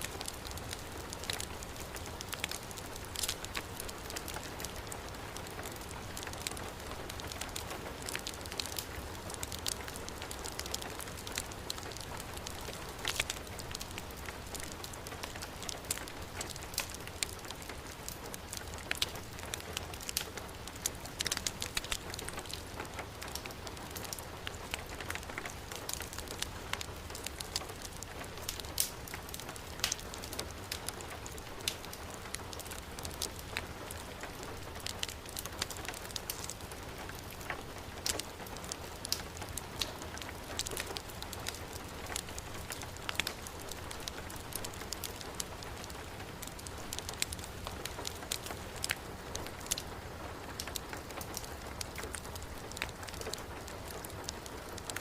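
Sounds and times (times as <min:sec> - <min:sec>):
fire crackling: 0:00.0 - 0:55.0
heavy rain falling: 0:00.0 - 0:55.0.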